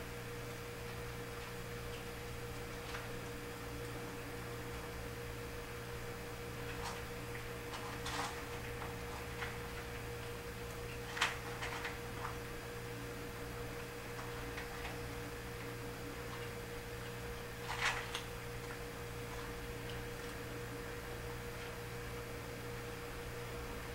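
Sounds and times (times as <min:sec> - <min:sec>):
electrical hum: 0:00.0 - 0:23.9.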